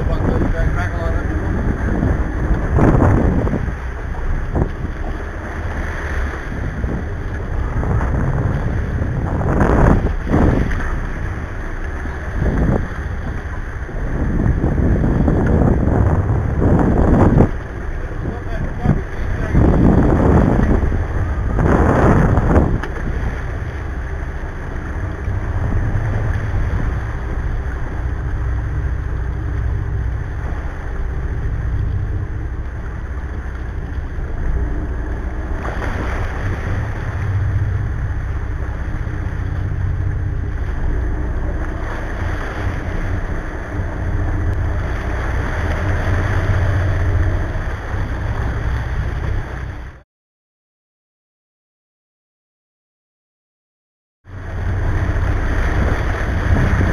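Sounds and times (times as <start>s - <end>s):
boat engines rumbling: 0.0s - 50.0s, 54.2s - 56.9s
water rushing and churning: 0.0s - 50.0s, 54.3s - 56.9s
wind buffeting microphone: 0.0s - 50.0s, 54.3s - 56.9s.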